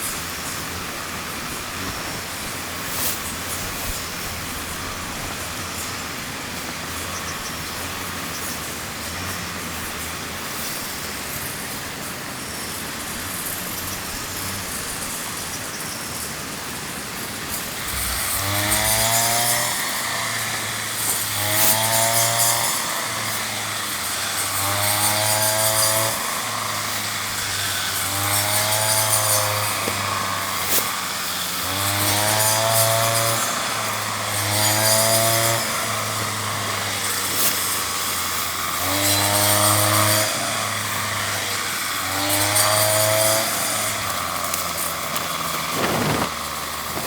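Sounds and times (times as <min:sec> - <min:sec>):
small motor machine running: 0:00.0 - 0:47.0.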